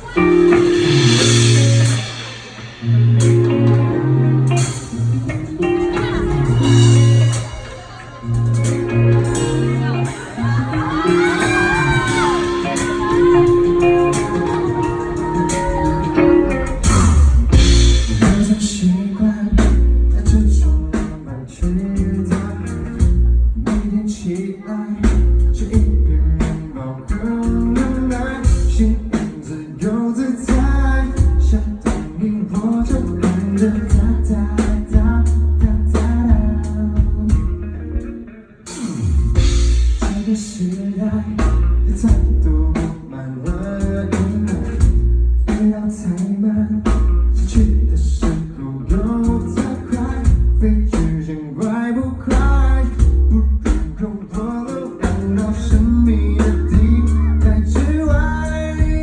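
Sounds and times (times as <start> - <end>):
guitar chords: 0.0 - 59.0
live rock band playing: 0.0 - 59.0
sustained bass notes: 0.0 - 59.0.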